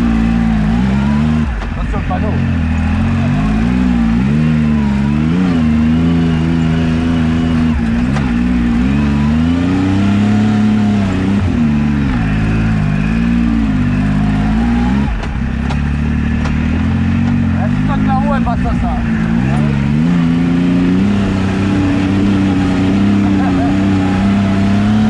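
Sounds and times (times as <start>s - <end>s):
engine revving under load: 0.0s - 25.0s.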